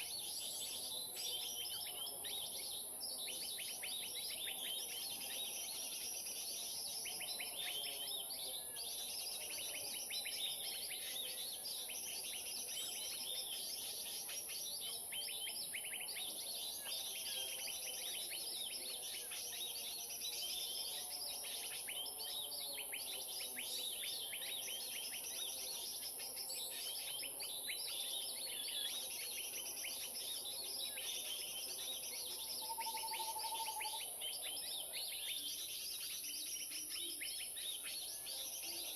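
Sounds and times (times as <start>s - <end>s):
many small birds chattering: 0.0s - 38.9s.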